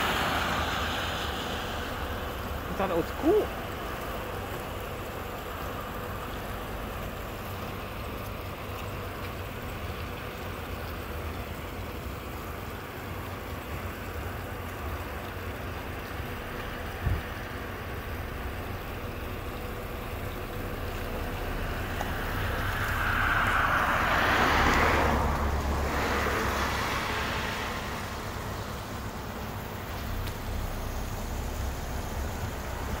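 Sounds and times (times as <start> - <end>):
fountain water splashing into pond: 0.0 - 33.0.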